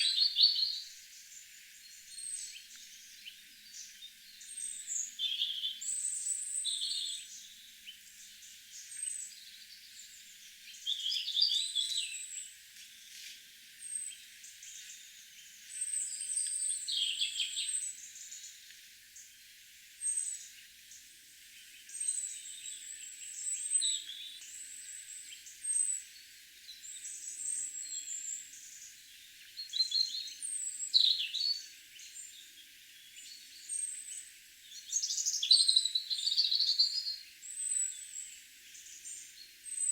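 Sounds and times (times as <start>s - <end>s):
songbirds chirping and singing: 0.0s - 12.5s, 13.9s - 18.7s, 21.6s - 39.9s.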